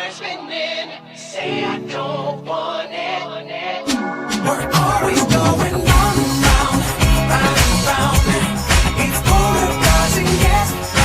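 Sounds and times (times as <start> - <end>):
pop song with singing: 0.0 - 11.0.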